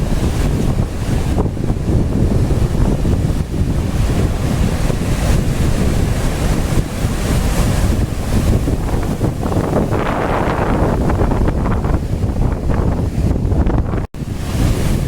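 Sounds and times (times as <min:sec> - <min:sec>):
large waves rushing: 0:00.0 - 0:15.0
wind buffeting microphone: 0:00.0 - 0:15.0.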